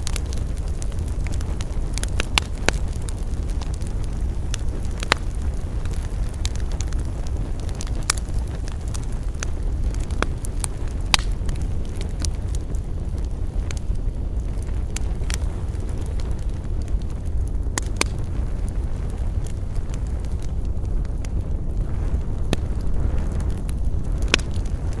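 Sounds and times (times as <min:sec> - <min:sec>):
campfire flame rumble: 0:00.0 - 0:25.0
fire crackling and popping: 0:00.0 - 0:25.0.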